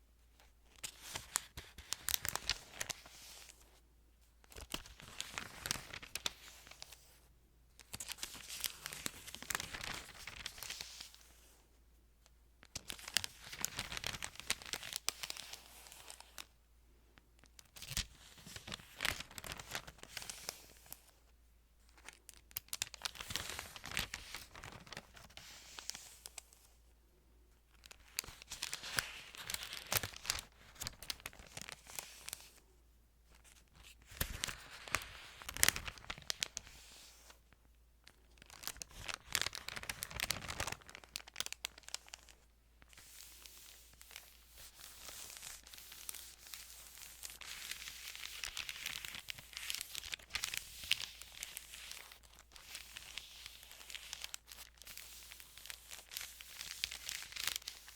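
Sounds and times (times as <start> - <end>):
thin paper crinkling: 0.7 - 3.7, 4.5 - 7.1, 7.8 - 11.5, 12.6 - 16.4, 17.7 - 21.2, 22.0 - 26.6, 27.8 - 32.6, 33.4 - 37.4, 38.0 - 57.9.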